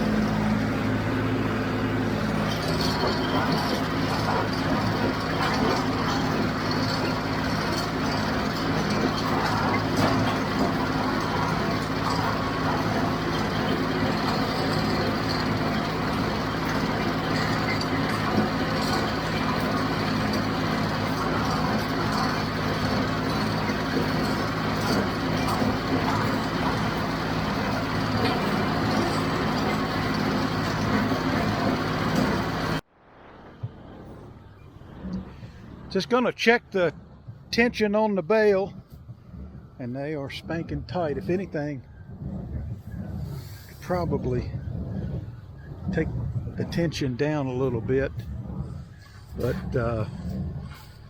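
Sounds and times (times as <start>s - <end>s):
baler working: 0.0s - 51.0s
tractor diesel engine running: 0.0s - 51.0s.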